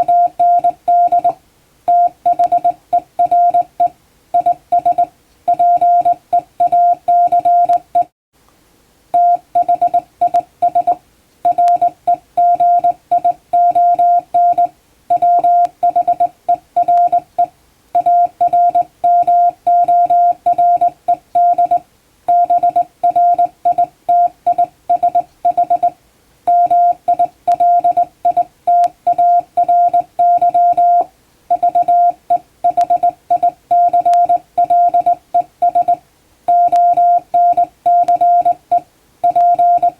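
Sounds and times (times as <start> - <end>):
morse code beeps: 0.0 - 8.1, 9.2 - 25.9, 26.5 - 39.9.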